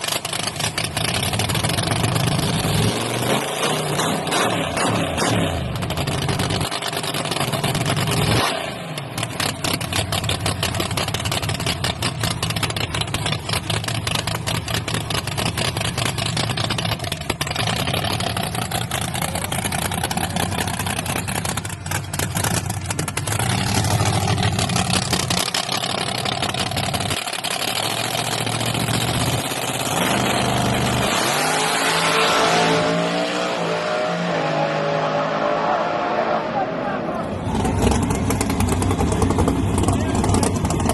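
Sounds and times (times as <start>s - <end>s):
pickup truck engines revving: 0.0s - 40.9s.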